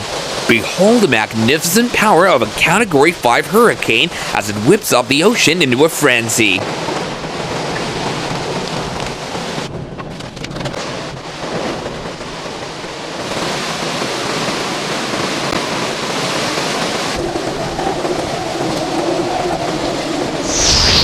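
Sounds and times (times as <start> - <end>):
heavy surf: 0.0 - 21.0
hurricane wind: 0.0 - 21.0.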